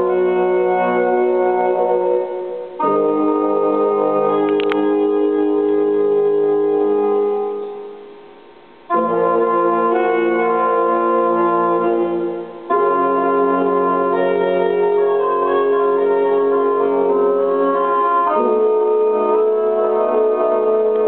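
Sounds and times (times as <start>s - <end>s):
slow held instrumental chords: 0.0s - 21.0s.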